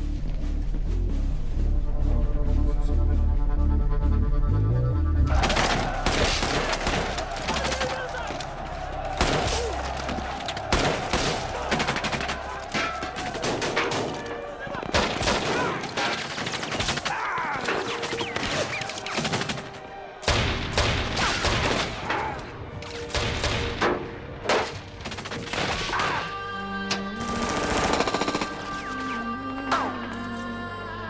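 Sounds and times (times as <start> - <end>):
film music with steady tones: 0.0 - 31.0.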